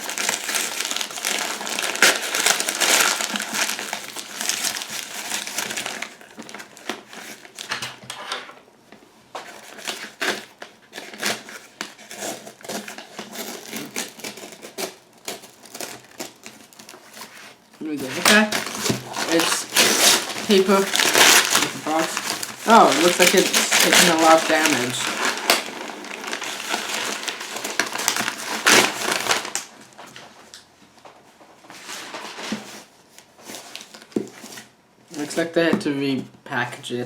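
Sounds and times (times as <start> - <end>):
paper packaging crinkling: 0.0 - 8.0, 9.4 - 30.6, 31.8 - 35.6.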